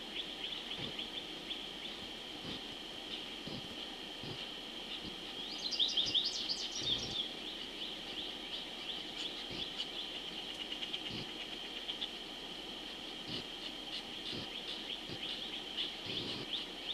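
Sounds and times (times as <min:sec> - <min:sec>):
high insect drone: 0:00.0 - 0:16.9
bird chirping: 0:00.1 - 0:12.2, 0:13.3 - 0:16.9.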